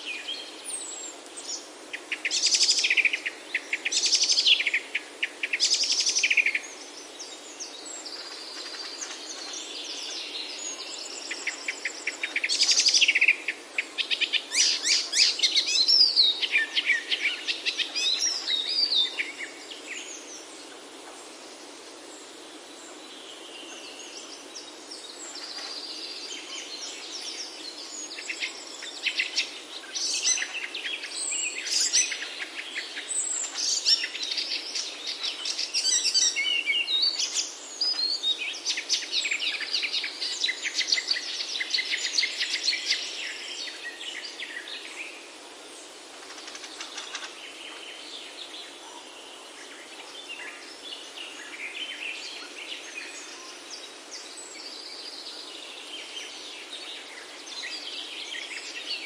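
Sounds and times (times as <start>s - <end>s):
small birds chirping: 0.0s - 59.0s
steady background hiss: 0.0s - 59.0s.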